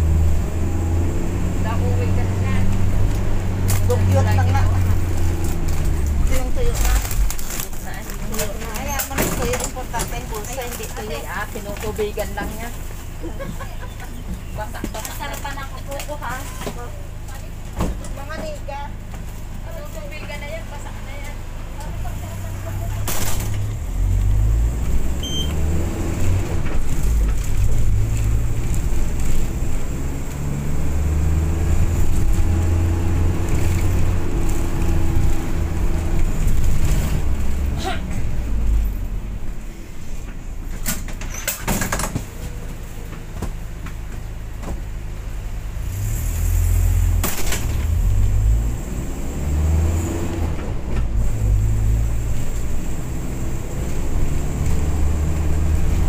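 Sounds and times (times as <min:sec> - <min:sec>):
engine and road rumble: 0:00.0 - 0:56.0.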